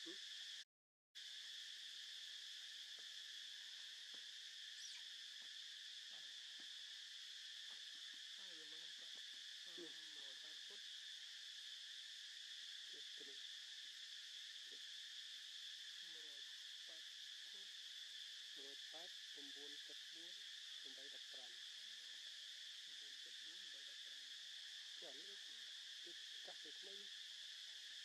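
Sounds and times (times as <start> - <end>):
insect chirring: 0.0 - 0.6, 1.2 - 28.0.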